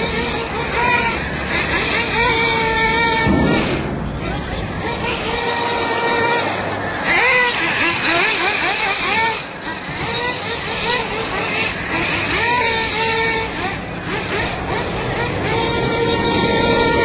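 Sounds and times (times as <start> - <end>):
small engines whining and revving: 0.0 - 17.0.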